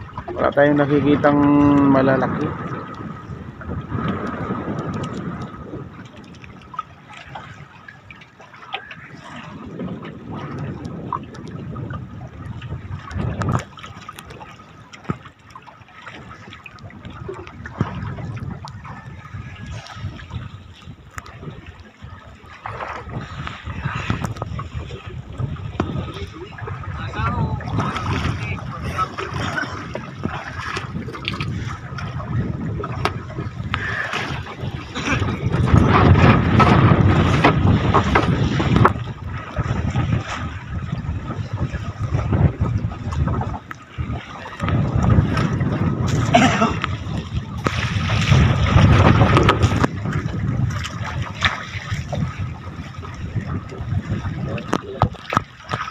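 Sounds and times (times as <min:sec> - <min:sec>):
sea water splashing and lapping: 0:00.0 - 0:55.9
wind rumbling on microphone: 0:00.0 - 0:55.9.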